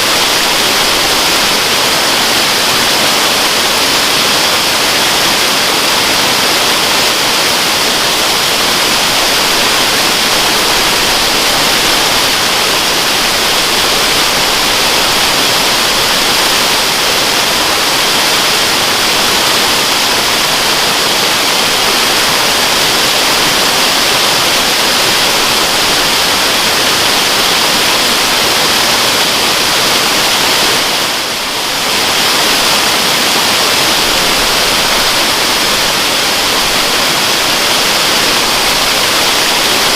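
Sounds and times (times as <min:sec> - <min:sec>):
waterfall pouring: 0:00.0 - 0:39.9.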